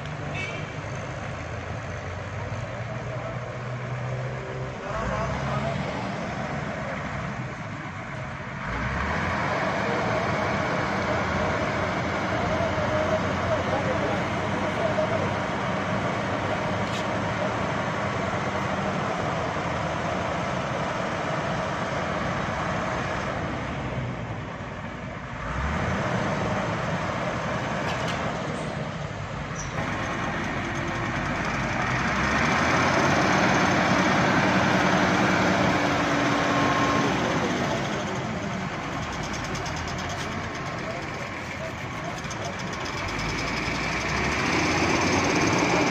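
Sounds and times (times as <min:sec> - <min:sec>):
heavy vehicle engines running: 0:00.0 - 0:45.9
road noise: 0:00.0 - 0:45.9.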